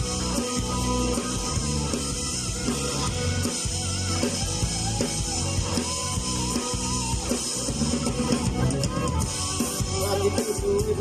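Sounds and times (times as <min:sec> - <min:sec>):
drum kit beat: 0:00.0 - 0:11.0
rock band playing: 0:00.0 - 0:11.0.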